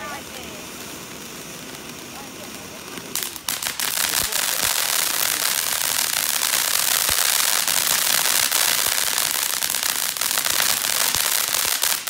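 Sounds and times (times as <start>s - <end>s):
firework sparks hissing and crackling: 0.0s - 12.0s.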